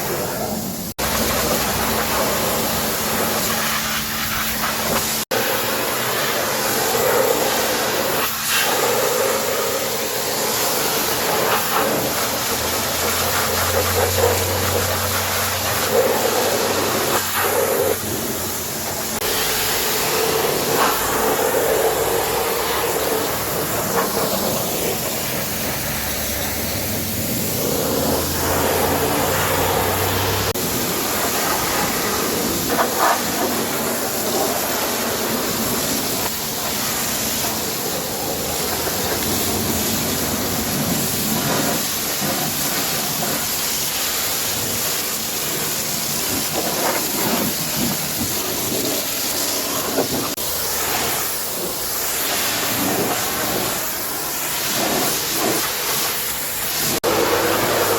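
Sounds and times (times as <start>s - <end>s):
pressure washer spraying water: 0.0s - 57.9s.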